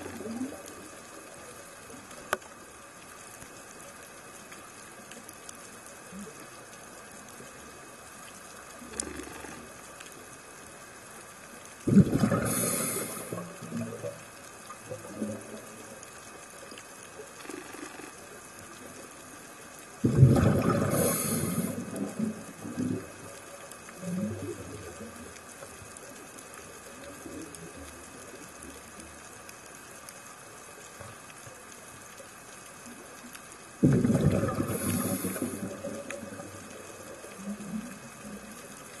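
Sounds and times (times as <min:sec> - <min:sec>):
underwater exhaled bubbles: 0:00.0 - 0:02.8, 0:04.6 - 0:39.0
faint gurgle and hiss: 0:00.0 - 0:39.0.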